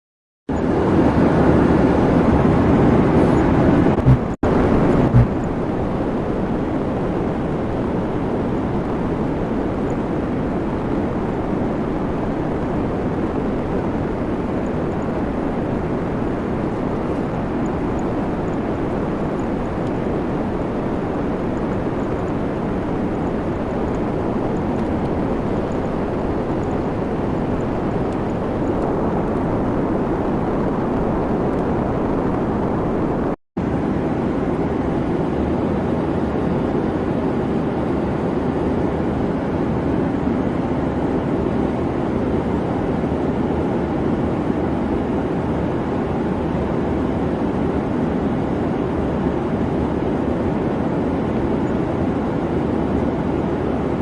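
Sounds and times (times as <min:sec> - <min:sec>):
aircraft engine roar: 0:00.5 - 0:54.0.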